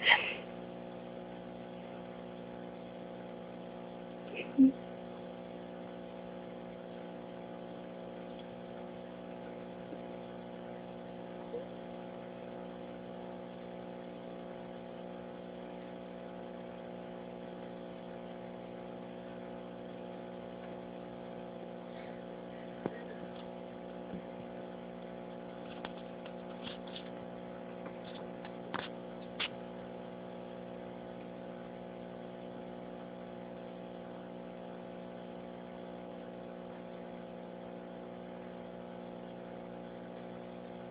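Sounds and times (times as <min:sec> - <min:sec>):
machine hum: 0:00.0 - 0:40.9.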